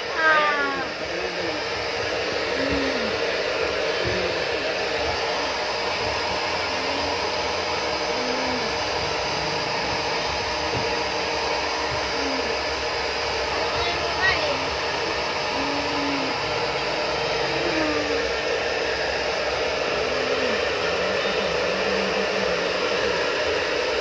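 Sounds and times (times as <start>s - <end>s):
fan whirring: 0.0s - 24.0s.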